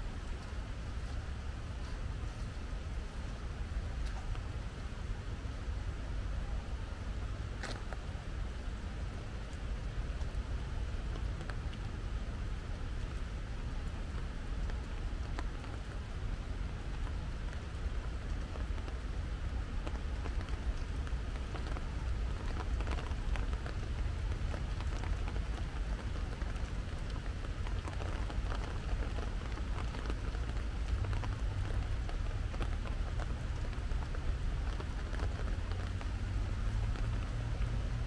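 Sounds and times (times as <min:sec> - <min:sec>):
raindrops ticking: 0:07.5 - 0:38.0.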